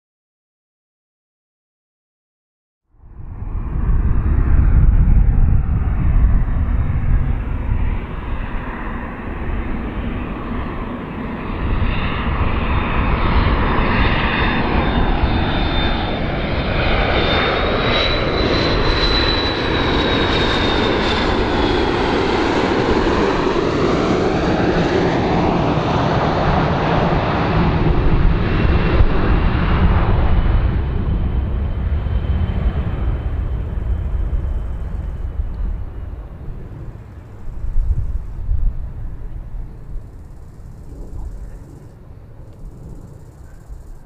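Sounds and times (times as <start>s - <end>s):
high jet engine whine: 2.9s - 44.0s
jet engine roar: 3.0s - 44.0s.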